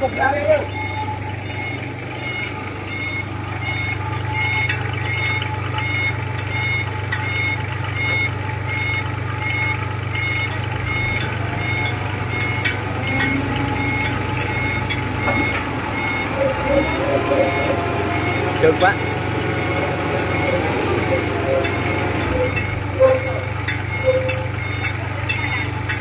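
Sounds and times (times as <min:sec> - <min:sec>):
reversing alarm beeping: 0:00.0 - 0:26.0
road roller diesel engine: 0:00.0 - 0:26.0.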